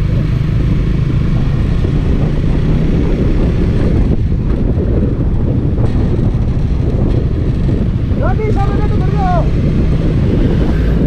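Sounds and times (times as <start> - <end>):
motorcycle engine drone: 0.0 - 11.0
wind rushing over microphone: 0.0 - 11.0.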